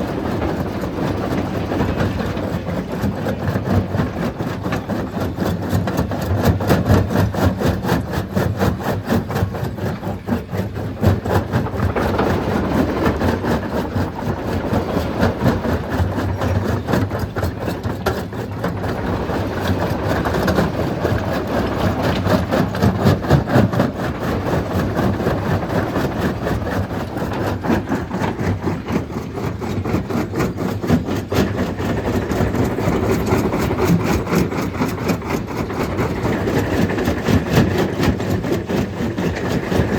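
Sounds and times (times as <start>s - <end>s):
stone crushing machine running: 0.0s - 39.9s.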